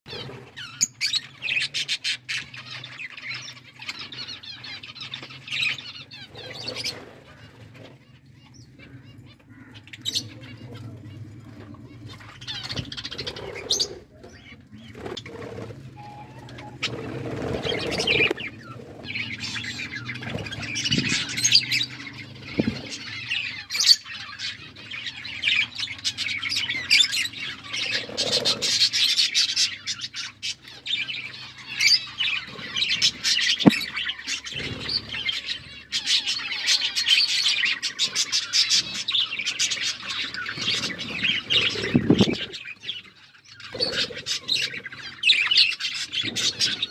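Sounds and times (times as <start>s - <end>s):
budgerigars chattering and chirping: 0.1s - 46.9s.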